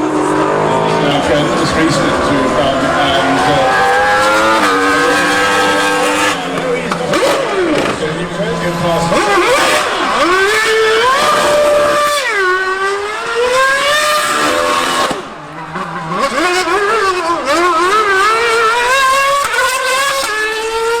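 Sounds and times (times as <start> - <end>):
high-revving racing engine: 0.0 - 21.0.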